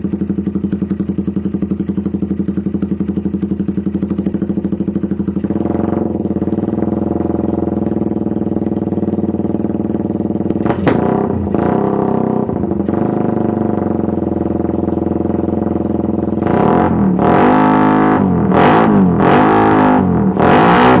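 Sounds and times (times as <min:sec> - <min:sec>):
motorcycle engine idling: 0:00.0 - 0:20.4
motorcycle engine revving: 0:00.0 - 0:21.0.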